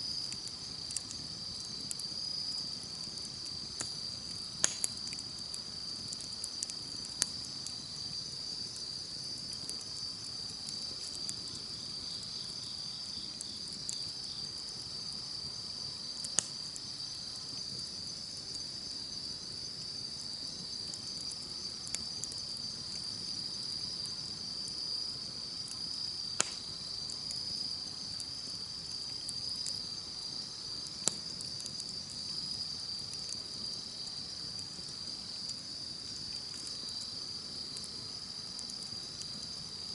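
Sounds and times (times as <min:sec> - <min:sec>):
campfire burning softly: 0:00.0 - 0:39.9
fire crackling pops: 0:00.0 - 0:39.9
insects chirring: 0:00.0 - 0:39.9.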